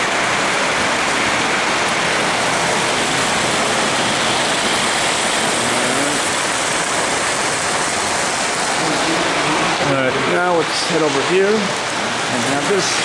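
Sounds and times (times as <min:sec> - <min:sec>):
model train whirring on track: 0:00.0 - 0:11.7.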